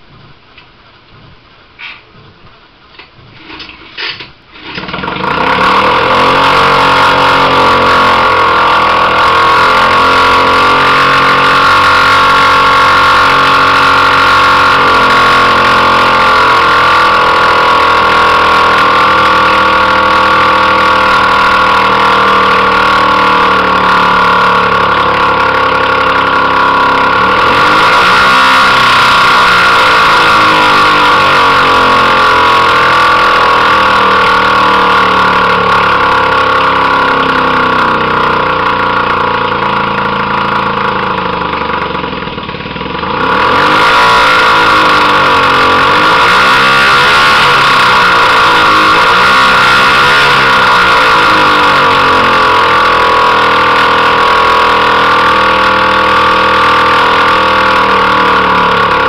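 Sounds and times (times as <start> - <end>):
two-stroke outboard motor running: 3.6 - 59.0.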